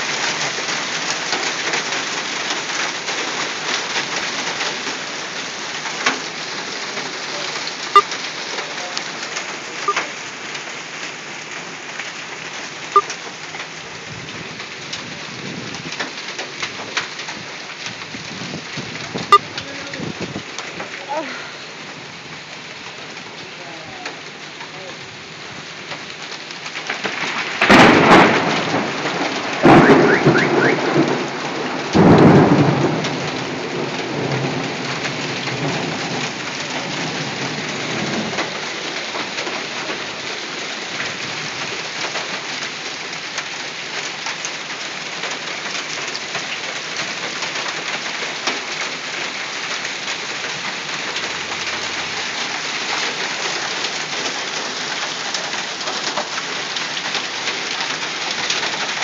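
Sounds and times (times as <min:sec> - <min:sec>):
hail and rain falling: 0:00.0 - 0:59.0.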